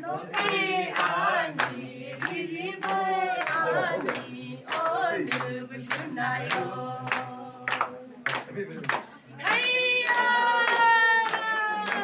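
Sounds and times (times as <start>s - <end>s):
women singing in unison: 0.0s - 8.3s, 9.3s - 12.0s
hand claps: 0.3s - 12.0s.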